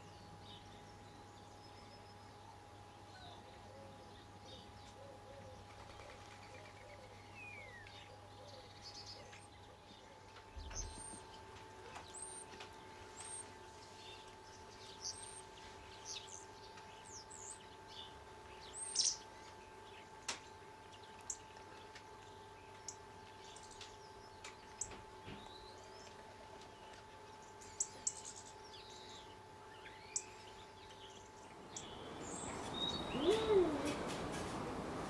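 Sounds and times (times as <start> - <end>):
faint steady hum: 0.0 - 35.0
songbirds chirping: 0.0 - 35.0.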